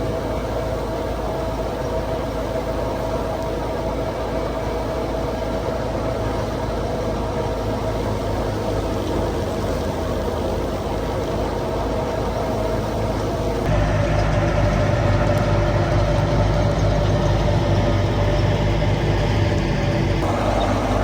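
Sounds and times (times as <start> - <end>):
diesel engine under load: 0.0 - 21.0
mechanical hum: 0.0 - 21.0.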